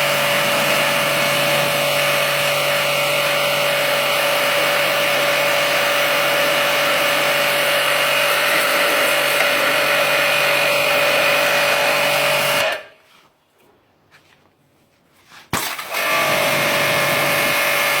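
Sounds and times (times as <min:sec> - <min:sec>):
electric blower motor whirring: 0:00.0 - 0:12.9, 0:15.8 - 0:18.0.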